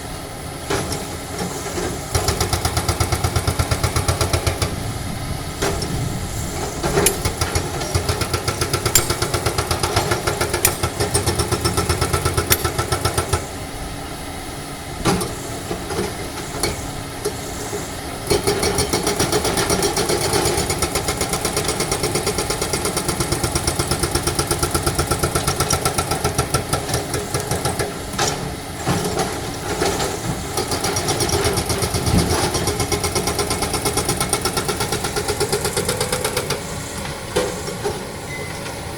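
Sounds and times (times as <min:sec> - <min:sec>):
diesel engine running: 0:00.0 - 0:38.9
hydraulic breaker hammering rock: 0:00.7 - 0:04.9, 0:05.6 - 0:13.6, 0:17.7 - 0:38.1.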